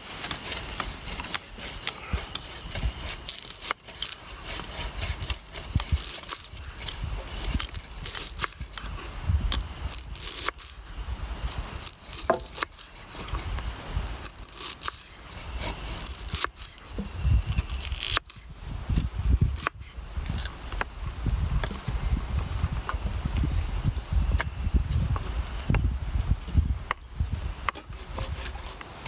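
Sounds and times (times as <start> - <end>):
scraping and crackling handling: 0.0 - 25.9, 26.5 - 29.0.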